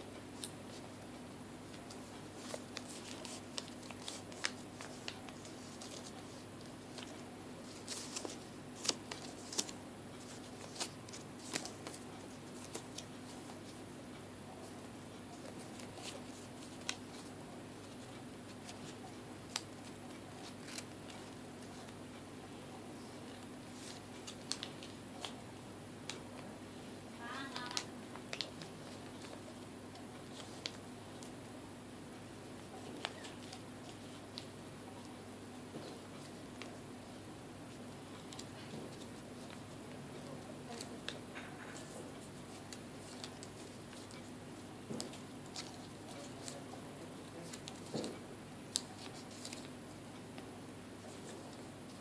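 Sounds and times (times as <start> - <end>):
faint steady hum: 0.0 - 52.0
crisp rustles and clicks: 0.4 - 14.0, 14.6 - 22.0, 23.0 - 25.4, 27.2 - 31.4, 37.7 - 52.0.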